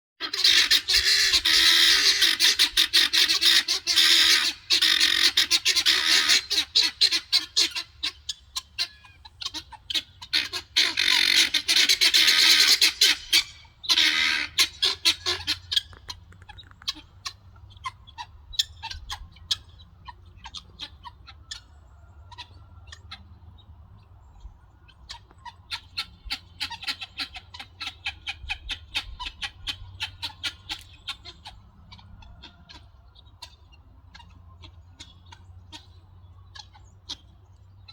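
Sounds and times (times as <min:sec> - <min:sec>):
guinea fowl chattering calls: 0:00.2 - 0:37.9.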